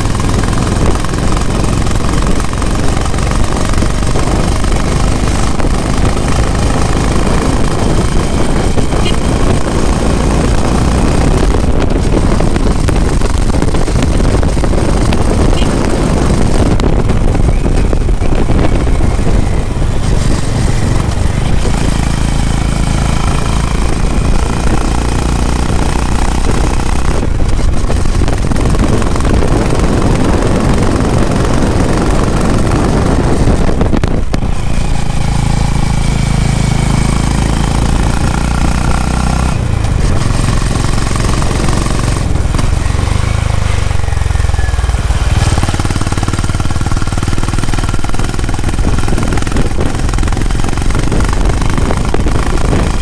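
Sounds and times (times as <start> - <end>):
motorcycle engine running: 0.0 - 53.0
wind on microphone: 0.0 - 53.0.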